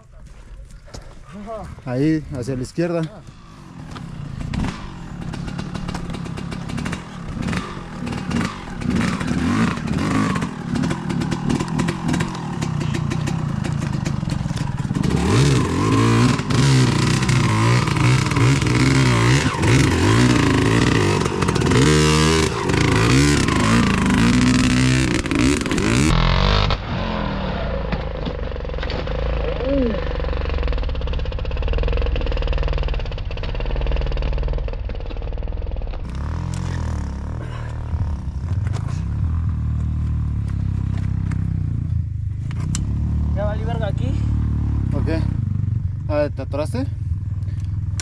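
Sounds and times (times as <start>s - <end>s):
dirt bike engine revving: 3.3s - 27.9s, 29.0s - 35.0s, 36.0s - 41.8s, 42.6s - 45.9s.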